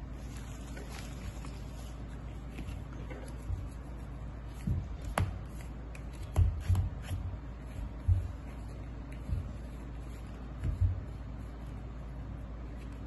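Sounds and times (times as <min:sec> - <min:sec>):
hands rustling: 0:00.0 - 0:11.9.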